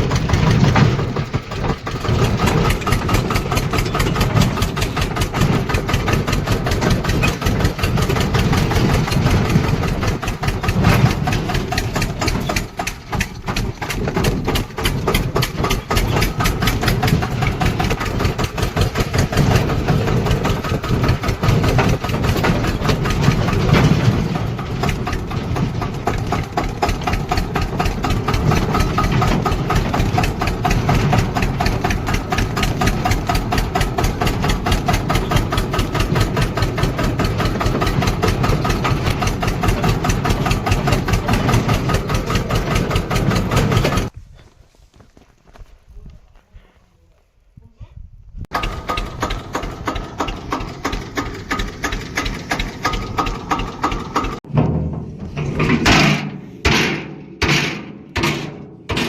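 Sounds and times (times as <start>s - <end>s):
tractor diesel engine running: 0.0s - 45.6s, 48.5s - 59.0s.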